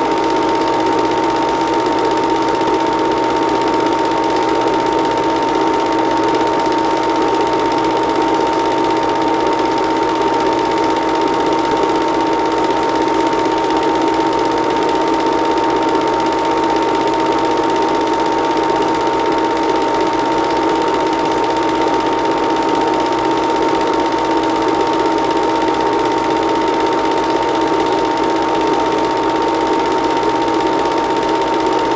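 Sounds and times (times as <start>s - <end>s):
film projector whirring: 0.0s - 31.9s
projector clatter: 0.0s - 31.9s.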